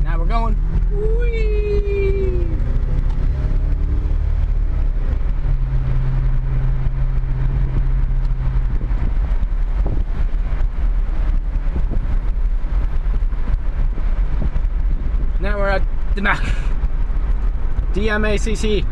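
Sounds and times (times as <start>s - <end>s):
engine and tyre rumble: 0.0s - 18.9s
wind noise: 0.0s - 18.9s.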